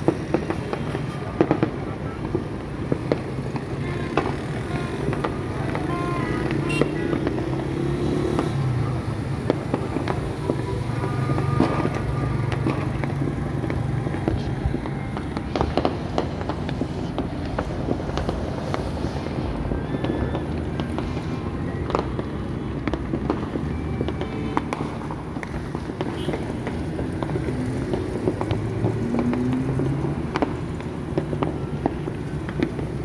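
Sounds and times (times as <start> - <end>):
fireworks popping and banging: 0.0 - 33.0.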